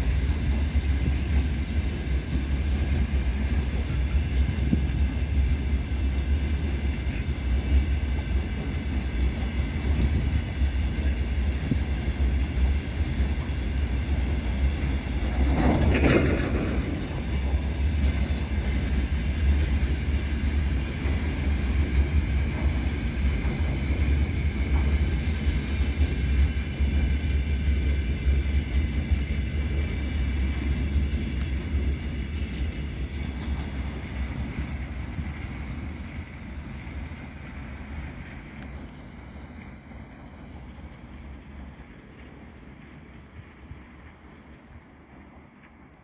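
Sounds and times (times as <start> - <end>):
freight wagons rumbling on rails: 0.0 - 46.0.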